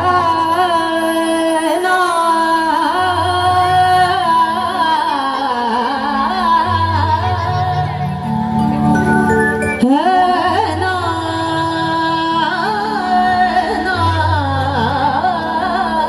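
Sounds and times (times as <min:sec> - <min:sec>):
devotional song with sliding melody: 0:00.0 - 0:16.0.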